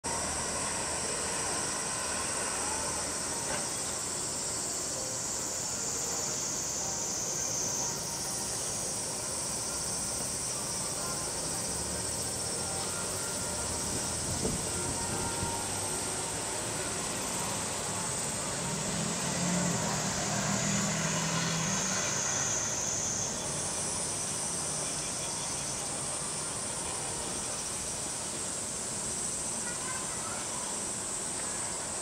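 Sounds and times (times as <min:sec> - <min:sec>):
cicadas buzzing: 0:00.1 - 0:32.0.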